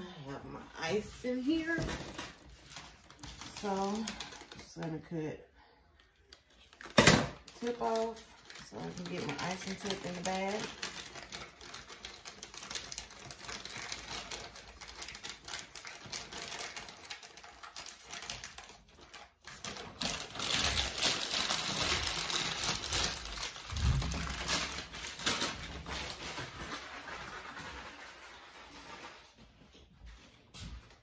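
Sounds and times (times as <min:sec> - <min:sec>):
plastic piping bag crinkling: 0:00.2 - 0:29.0.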